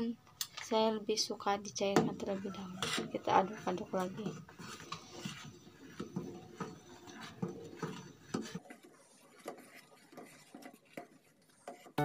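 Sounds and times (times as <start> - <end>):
metal spoon stirring in saucepan: 0.4 - 12.0.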